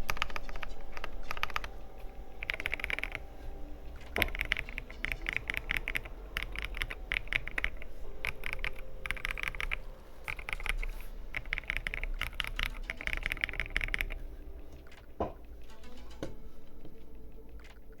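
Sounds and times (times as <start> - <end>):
typing on mechanical keyboard: 0.0 - 3.4, 4.0 - 18.0.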